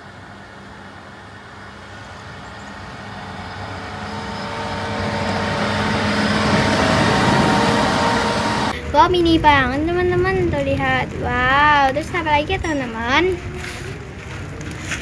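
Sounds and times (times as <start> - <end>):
diesel grader engine approaching: 0.0 - 15.0.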